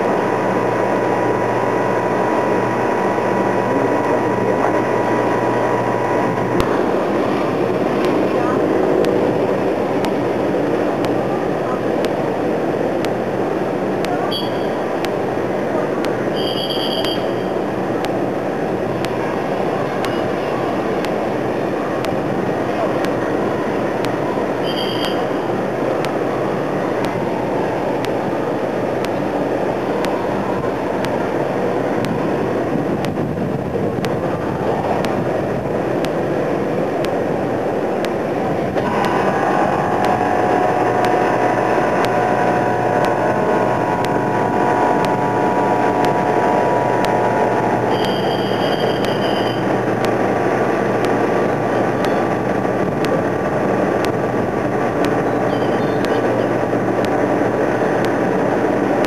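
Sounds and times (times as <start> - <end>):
droning engine with steady pitches: 0.0 - 59.0
engine drone and rumble: 0.0 - 59.0.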